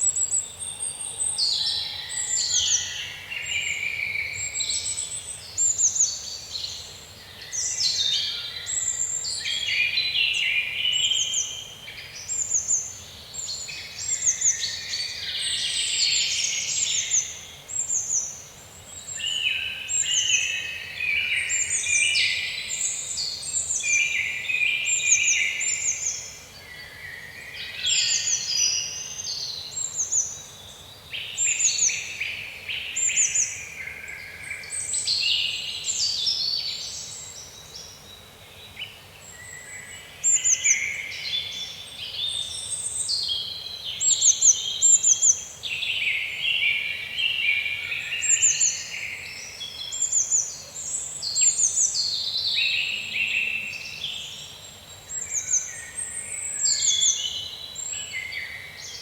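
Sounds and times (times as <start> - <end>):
songbirds chorus: 0.0 - 59.0.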